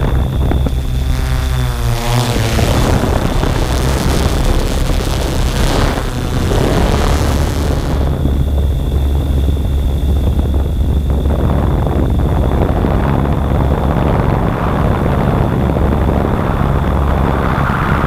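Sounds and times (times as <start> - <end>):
drone propellers and motors: 0.0 - 18.0.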